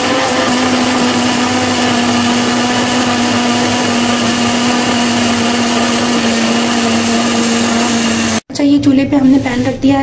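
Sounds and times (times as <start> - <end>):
electric blender running: 0.0 - 8.5.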